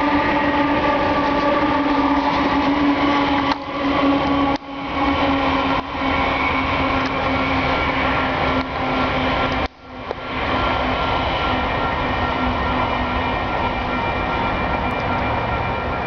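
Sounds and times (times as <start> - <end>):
diesel locomotive engine drone: 0.0 - 16.0
wheels rumbling on rail: 0.0 - 16.0.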